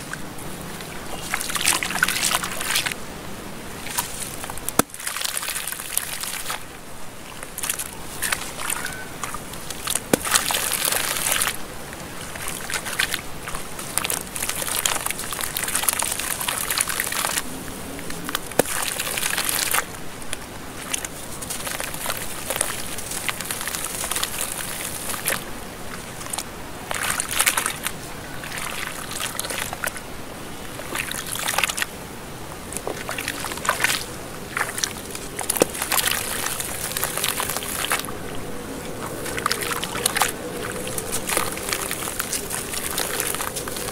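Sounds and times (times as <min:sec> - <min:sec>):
gritty sand crumbling: 0:00.0 - 0:03.0, 0:03.6 - 0:06.7, 0:07.3 - 0:30.0, 0:32.6 - 0:43.9
water sloshing and trickling: 0:00.0 - 0:43.9.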